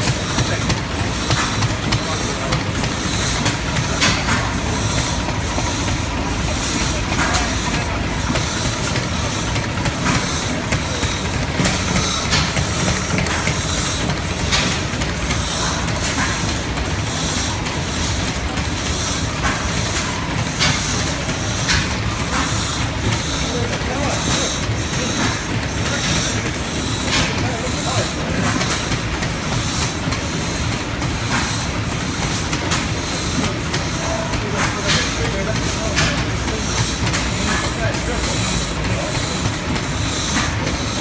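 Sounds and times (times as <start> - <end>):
stationary engine clattering: 0.0 - 41.0.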